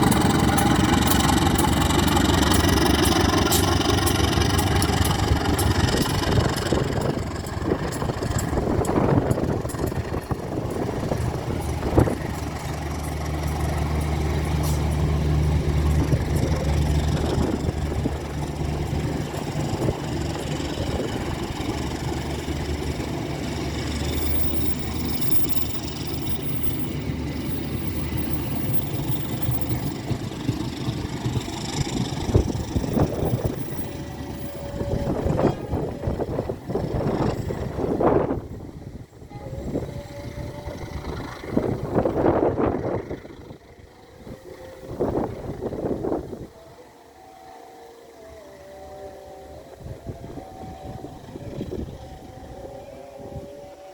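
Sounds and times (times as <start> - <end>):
diesel locomotive engine droning: 0.0 - 53.9.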